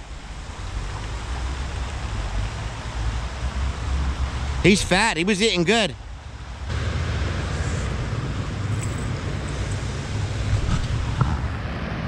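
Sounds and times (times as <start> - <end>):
river rushing over riffle: 0.0 - 12.0.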